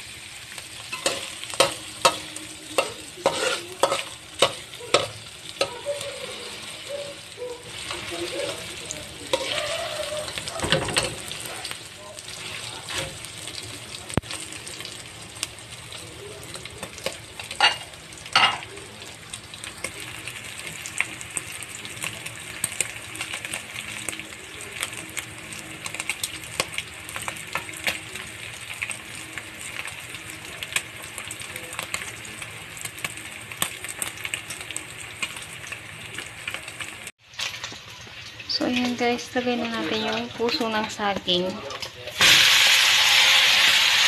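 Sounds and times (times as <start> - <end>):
sausage sizzling in hot oil: 0.0 - 44.0.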